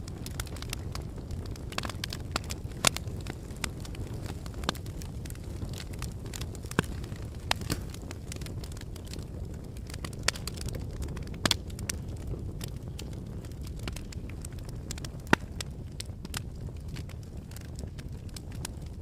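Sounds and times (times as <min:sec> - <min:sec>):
lava cracks and pops: 0:00.0 - 0:19.0
volcanic low rumble: 0:00.0 - 0:19.0.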